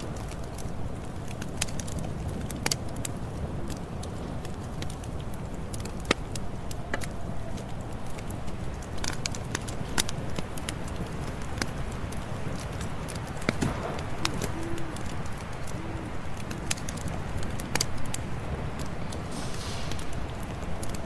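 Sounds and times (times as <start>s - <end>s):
campfire flames rumbling: 0.0s - 21.0s
fire pops and crackles: 0.0s - 21.0s.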